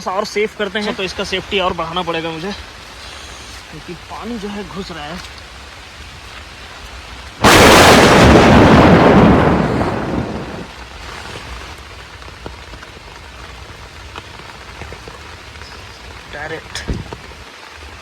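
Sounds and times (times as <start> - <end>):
heavy rain: 0.0 - 18.0
loud thunderclap rumbling: 0.9 - 18.0.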